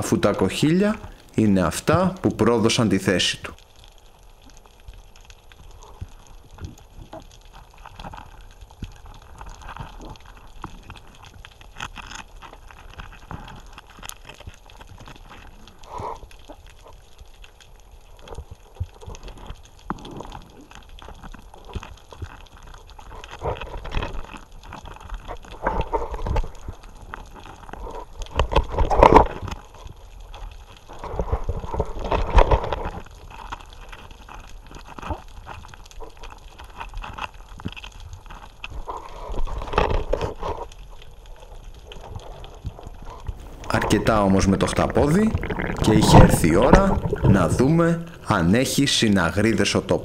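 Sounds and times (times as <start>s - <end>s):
underwater gurgling and bubbling: 3.6s - 50.0s.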